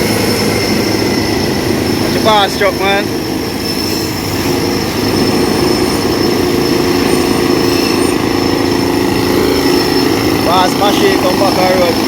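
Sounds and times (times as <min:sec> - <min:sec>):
diesel truck engine running: 0:00.0 - 0:12.0
thin high whine: 0:00.0 - 0:12.0.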